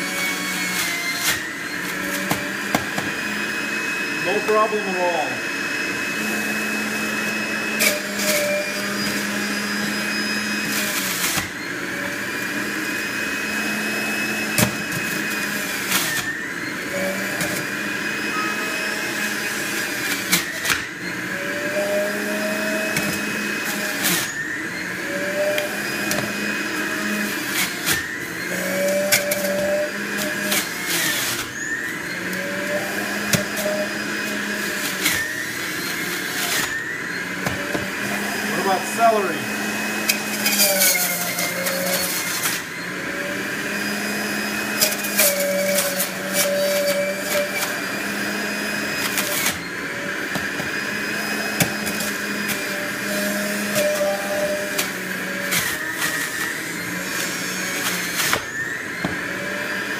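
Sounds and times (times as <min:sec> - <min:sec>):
juicer motor running: 0:00.0 - 0:59.9.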